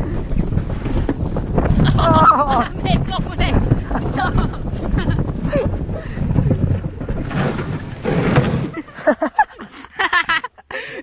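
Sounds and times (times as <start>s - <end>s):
wind on microphone: 0.0s - 8.9s
sledge rumbling over snow: 0.0s - 9.2s.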